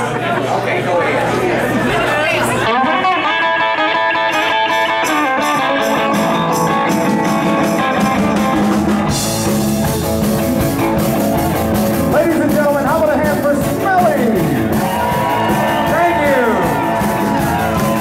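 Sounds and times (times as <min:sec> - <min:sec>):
live band playing: 0:02.3 - 0:18.0.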